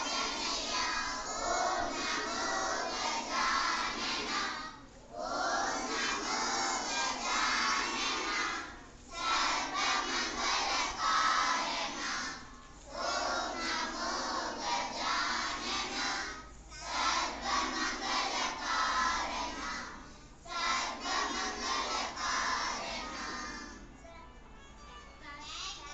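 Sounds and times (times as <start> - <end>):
children's voices in unison: 0.0 - 23.9.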